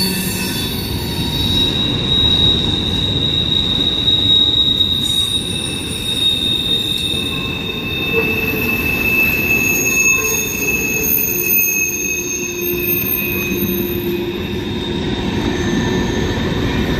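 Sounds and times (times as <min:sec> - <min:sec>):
freight train rumbling on rails: 0:00.0 - 0:16.9
high-pitched wheel squeal: 0:00.0 - 0:16.9.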